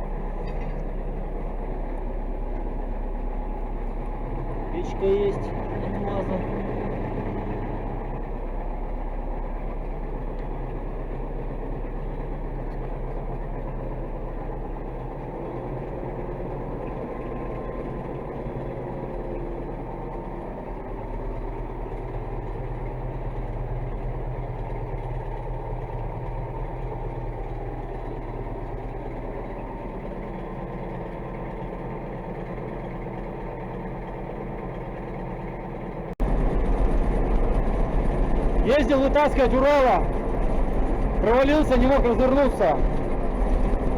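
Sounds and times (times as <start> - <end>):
tractor diesel engine droning: 0.0 - 43.9.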